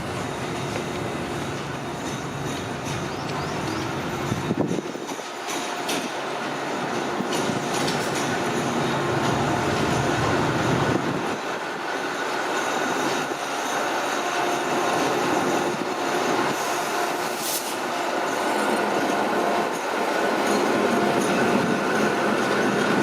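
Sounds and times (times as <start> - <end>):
train clatter over rail joints: 0.1 - 23.0
train wheels squealing: 1.4 - 23.0.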